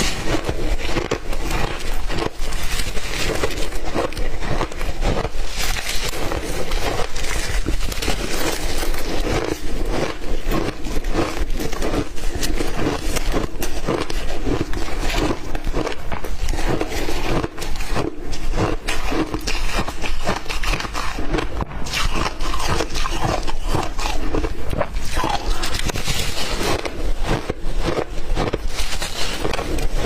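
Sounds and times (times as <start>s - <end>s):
ice being chewed: 0.0s - 30.0s.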